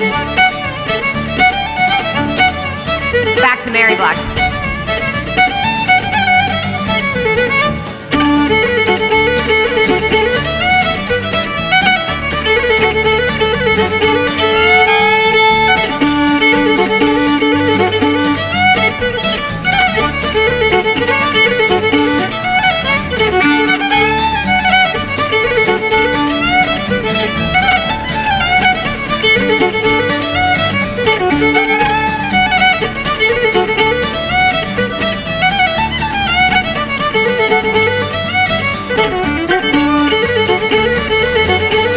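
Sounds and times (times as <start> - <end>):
fiddle playing a fast jig: 0.0 - 41.9
steady rhythmic accompaniment: 0.0 - 41.9.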